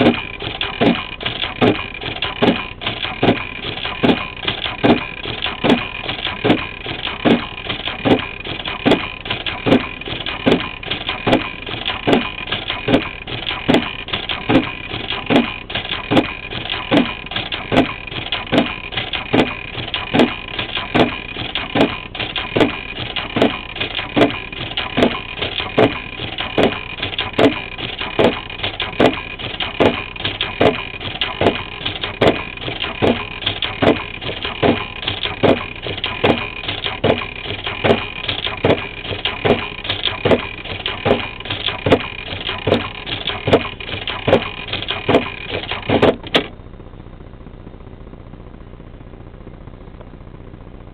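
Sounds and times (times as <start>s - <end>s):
sewing machine running: 0.0s - 46.5s.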